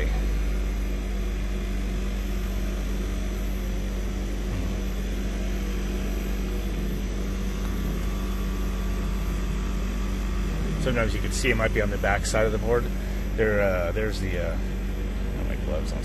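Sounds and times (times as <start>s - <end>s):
compressor unit deep hum: 0.0s - 16.0s.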